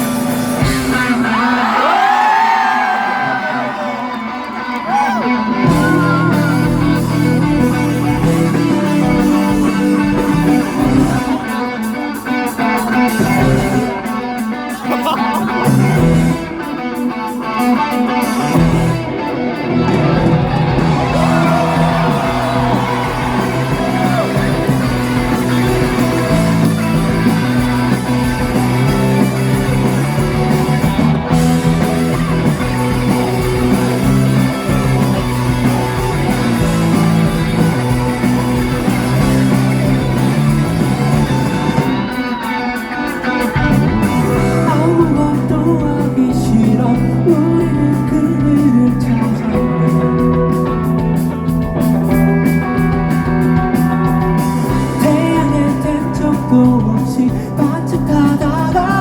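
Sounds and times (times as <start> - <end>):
electric guitar: 0.0 - 59.0
live rock band playing: 0.0 - 59.0.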